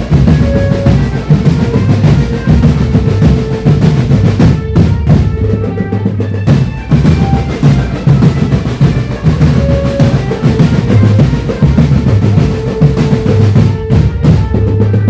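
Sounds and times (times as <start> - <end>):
bass drum beats: 0.0 - 15.0
snare drum rolls: 0.0 - 15.0.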